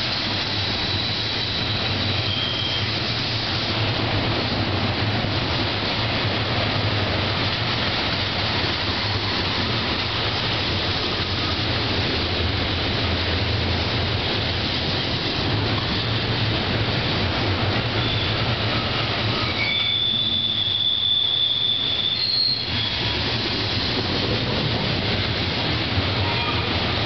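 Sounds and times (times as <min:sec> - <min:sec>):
steel wheels rumbling on rail: 0:00.0 - 0:27.0.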